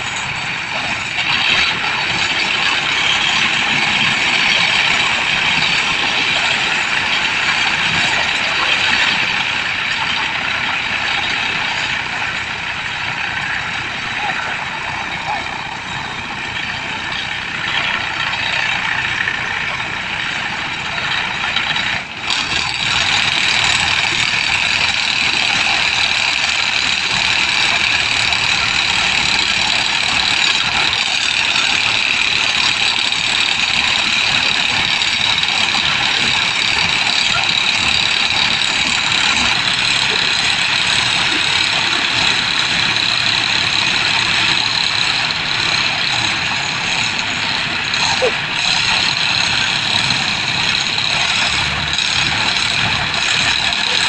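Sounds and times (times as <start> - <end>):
heavy machinery running: 0.0 - 54.0.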